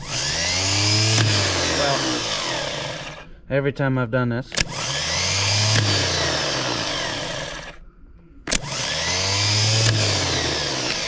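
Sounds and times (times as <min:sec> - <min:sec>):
starter solenoid clicking: 0:00.0 - 0:03.2, 0:04.5 - 0:07.8, 0:08.5 - 0:11.0
starter motor whining: 0:00.0 - 0:03.3, 0:04.5 - 0:07.8, 0:08.5 - 0:11.0.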